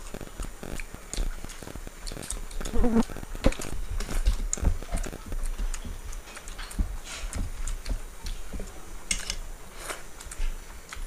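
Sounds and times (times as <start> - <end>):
chewing and lip smacks: 0.0 - 9.4, 10.0 - 11.0
fingers mixing rice on steel plates: 0.0 - 11.0.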